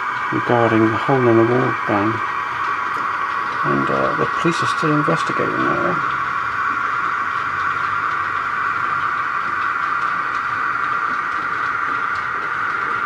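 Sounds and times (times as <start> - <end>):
steady whir: 0.0 - 13.0.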